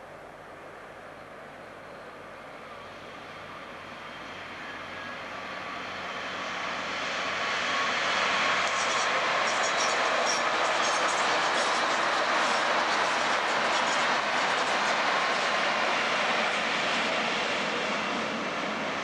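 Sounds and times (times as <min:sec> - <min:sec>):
train wheel and air rush: 0:02.3 - 0:19.0.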